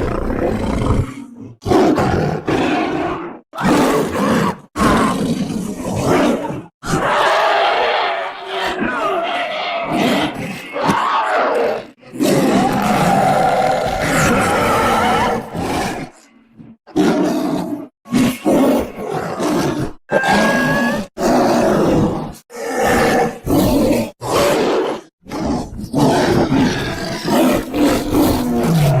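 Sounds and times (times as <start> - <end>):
creature roars and growls: 0.0 - 29.0.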